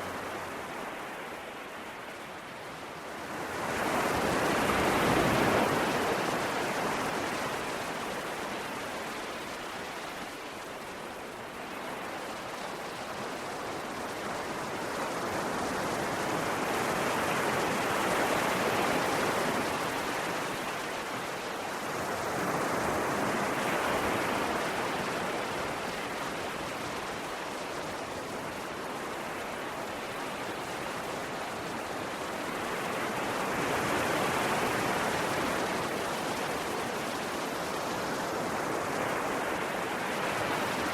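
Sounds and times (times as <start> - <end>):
ocean waves on shore: 0.0 - 40.9.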